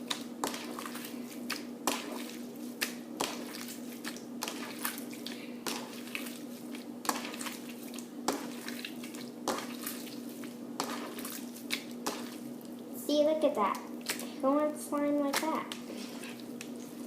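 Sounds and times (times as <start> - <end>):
slime squelching: 0.0 - 17.0
steady low hum: 0.0 - 17.0.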